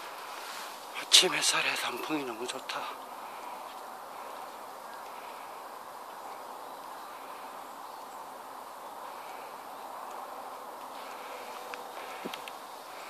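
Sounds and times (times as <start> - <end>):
faint insect chirps: 0.0 - 13.0
hissy woodland hum: 0.0 - 13.0.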